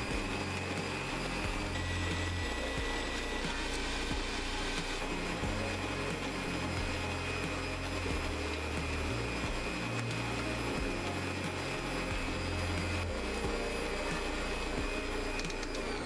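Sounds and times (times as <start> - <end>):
electric mixers whining: 0.0 - 16.0.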